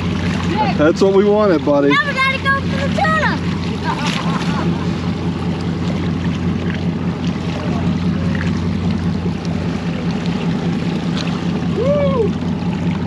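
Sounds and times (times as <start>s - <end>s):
boat engines droning: 0.0s - 13.0s
water sloshing against hull: 0.0s - 13.0s.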